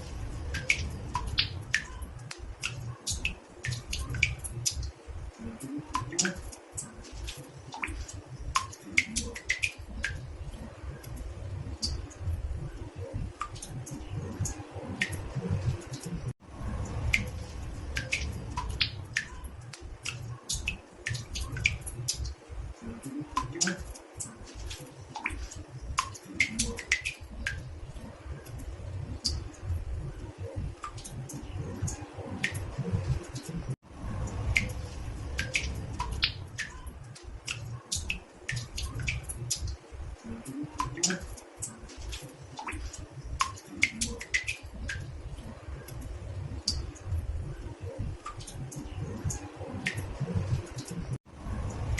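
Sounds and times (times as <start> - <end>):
water dripping into a bathtub: 0.0 - 51.9.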